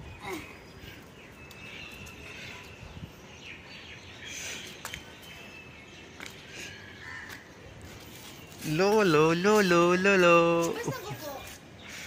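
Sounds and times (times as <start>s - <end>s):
birds chirping: 0.0s - 12.0s
outdoor background noise: 0.0s - 12.0s.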